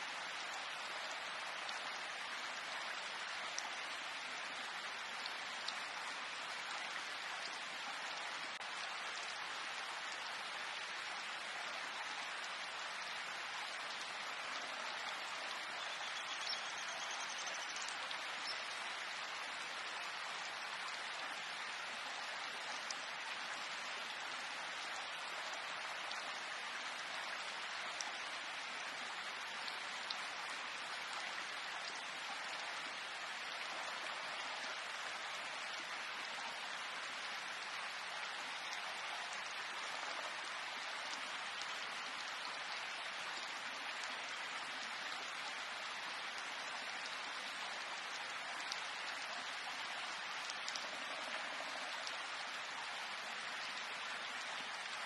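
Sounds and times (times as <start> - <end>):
individual raindrops: 0.0 - 55.0
steady rain falling: 0.0 - 55.0.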